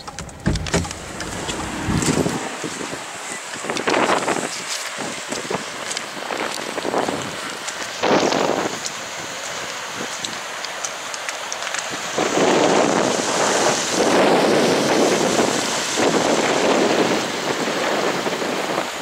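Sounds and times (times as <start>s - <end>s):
water rushing across road: 0.0s - 19.0s.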